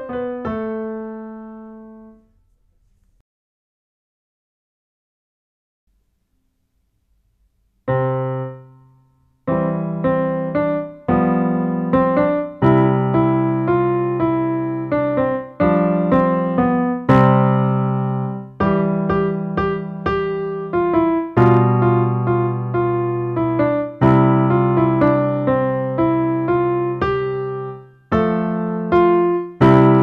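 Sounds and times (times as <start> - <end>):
digital piano chords: 0.0 - 2.3, 7.8 - 30.0.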